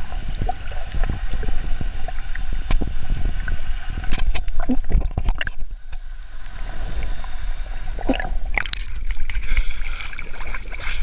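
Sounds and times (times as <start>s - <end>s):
low underwater rumble: 0.0s - 11.0s
water sloshing and splashing: 0.0s - 11.0s.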